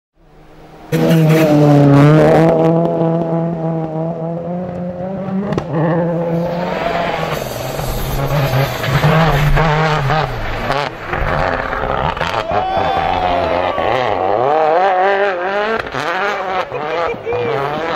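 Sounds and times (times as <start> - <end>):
rally car engines revving: 0.2 - 17.9.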